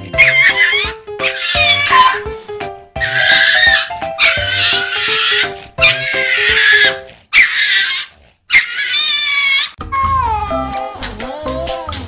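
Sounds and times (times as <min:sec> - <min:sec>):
cat and dog fighting cries: 0:00.2 - 0:02.3, 0:03.0 - 0:10.6.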